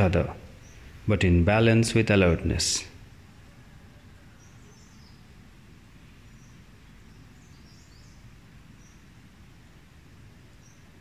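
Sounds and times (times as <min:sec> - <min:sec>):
distant bird chirps: 0:00.0 - 0:11.0
low steady rumble: 0:00.0 - 0:11.0.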